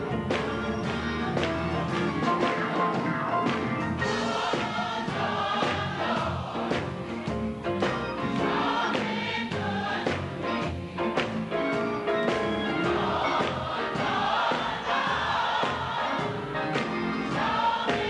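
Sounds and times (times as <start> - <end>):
gospel choir singing: 0.0 - 18.0
instrumental accompaniment with beat: 0.0 - 18.0.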